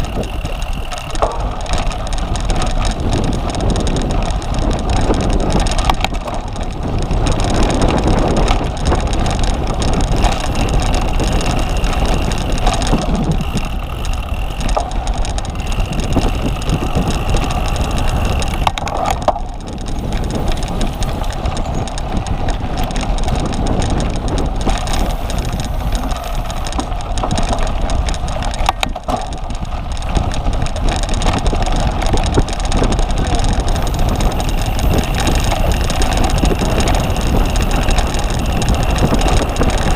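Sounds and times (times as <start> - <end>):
bike knocks and rattles: 0.0 - 39.9
bike tyres rolling on rough ground: 0.0 - 39.9
rushing wind: 0.0 - 39.9.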